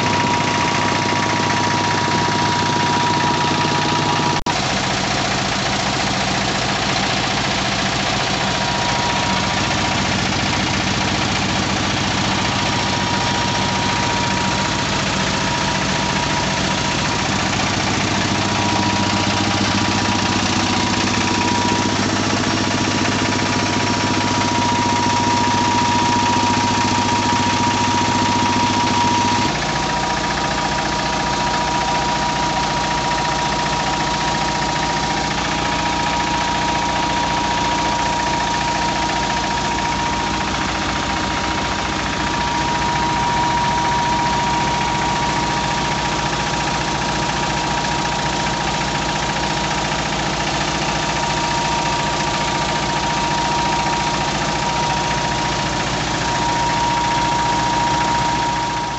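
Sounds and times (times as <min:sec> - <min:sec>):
diesel engine knocking: 0:00.0 - 0:58.9
high-pitched whine: 0:00.0 - 0:58.9.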